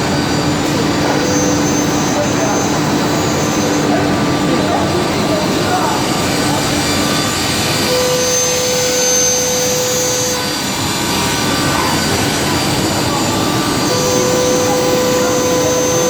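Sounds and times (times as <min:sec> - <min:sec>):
boring machine running: 0:00.0 - 0:16.0
steady machine whine: 0:00.0 - 0:16.0.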